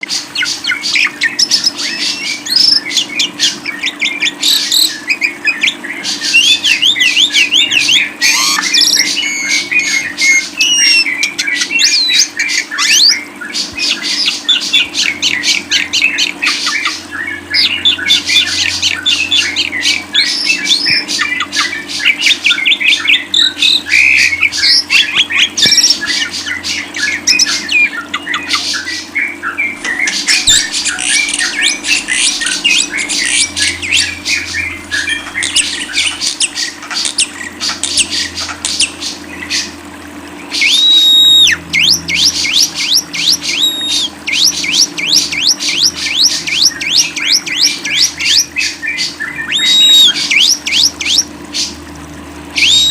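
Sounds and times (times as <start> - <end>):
bird chattering and squawking: 0.0 - 39.8, 40.5 - 51.8, 52.5 - 52.9
faint hum: 0.0 - 52.9.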